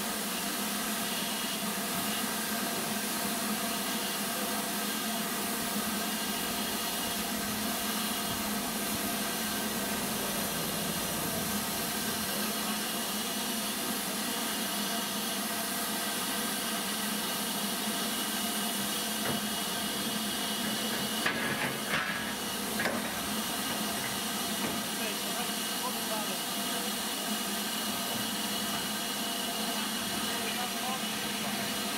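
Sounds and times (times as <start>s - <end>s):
steam locomotive hissing: 0.0s - 31.9s.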